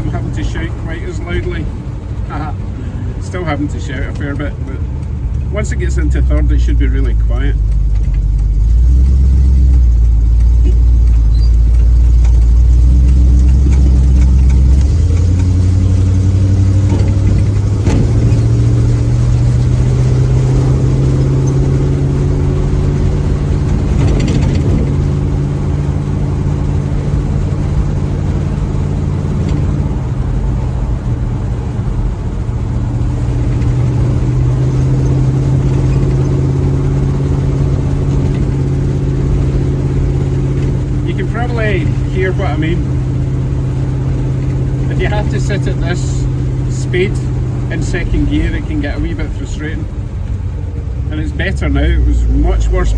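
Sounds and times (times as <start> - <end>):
car engine droning: 0.0 - 52.9.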